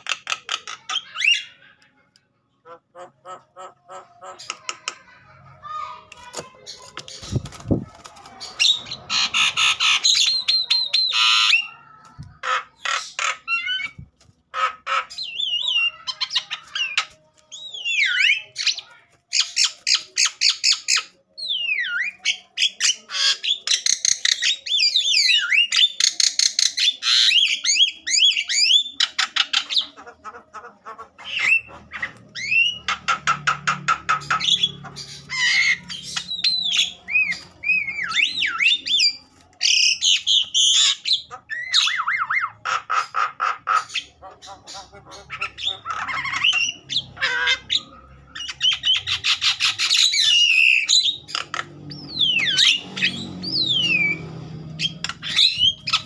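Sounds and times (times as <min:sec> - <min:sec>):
myna harsh rasping chatter: 0:00.0 - 0:56.0.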